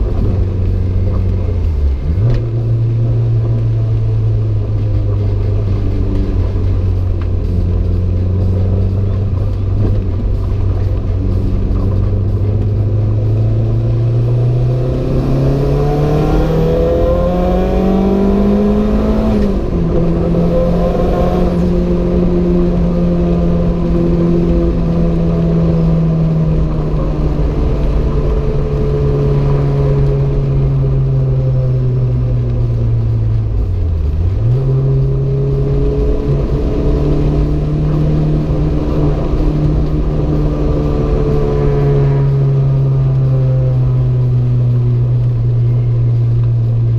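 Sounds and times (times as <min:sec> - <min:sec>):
car engine under load: 0:00.0 - 0:46.9.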